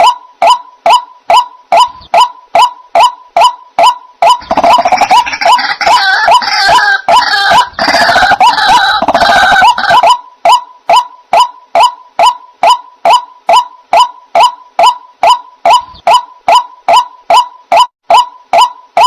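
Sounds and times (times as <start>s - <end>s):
waterhen calling: 0.0s - 17.8s.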